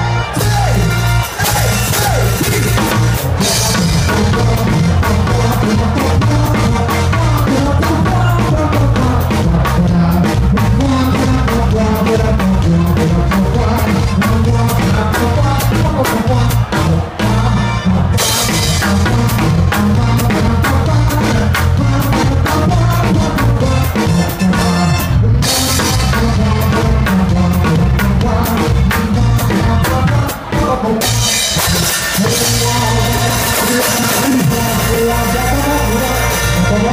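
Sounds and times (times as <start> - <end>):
live band music: 0.0 - 36.9
drum and cymbal hits: 0.4 - 16.9, 18.2 - 24.8, 29.9 - 36.7.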